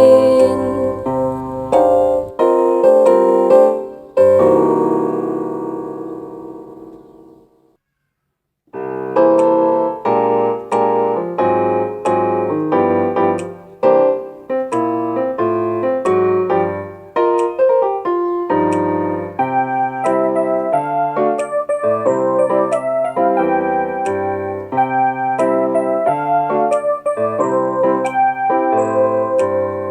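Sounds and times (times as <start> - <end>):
electronic keyboard piano melody: 0.0 - 7.6, 8.7 - 29.9.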